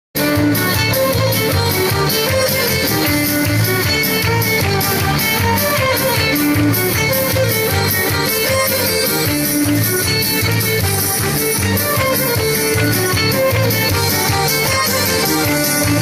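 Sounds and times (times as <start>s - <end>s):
guitar: 0.2s - 16.0s
steady beat: 0.2s - 16.0s
violin: 0.2s - 16.0s.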